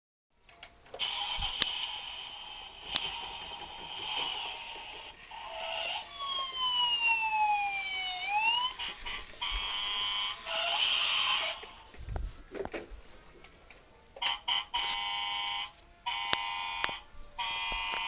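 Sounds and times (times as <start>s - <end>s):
toy electronic siren: 1.0s - 11.8s, 14.2s - 18.0s.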